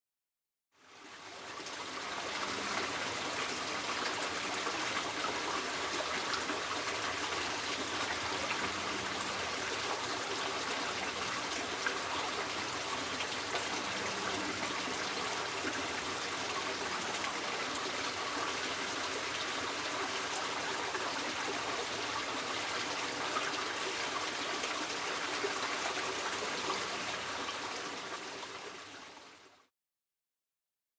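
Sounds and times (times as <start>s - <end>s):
creek trickling and flowing: 0.8s - 29.7s.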